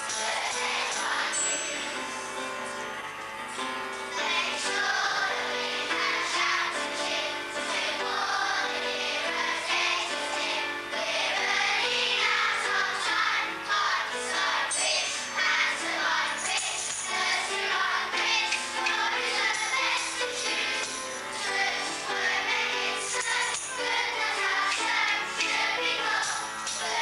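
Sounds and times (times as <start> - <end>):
music with singing voices: 0.0 - 27.0
children singing: 0.1 - 2.1, 4.1 - 27.0.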